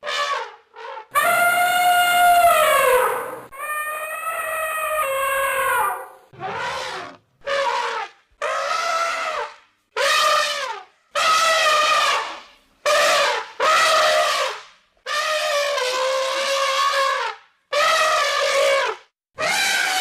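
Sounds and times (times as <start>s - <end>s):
elephant trumpeting: 0.1s - 14.5s, 15.1s - 20.0s.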